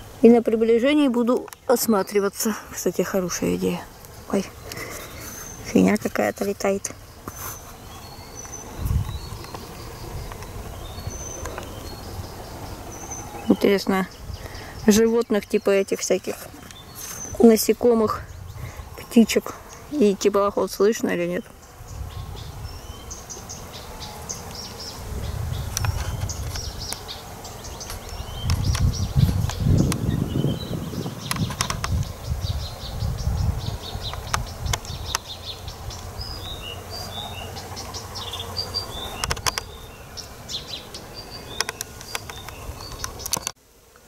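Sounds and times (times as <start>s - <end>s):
insects buzzing: 0.0s - 44.0s
songbirds chirping: 0.0s - 44.0s.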